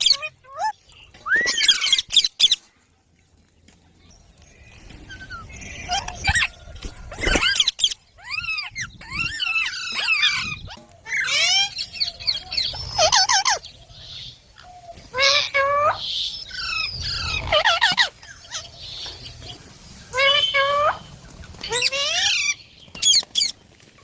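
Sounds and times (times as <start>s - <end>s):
parrots chattering and squawking: 0.0s - 2.7s, 4.5s - 23.6s.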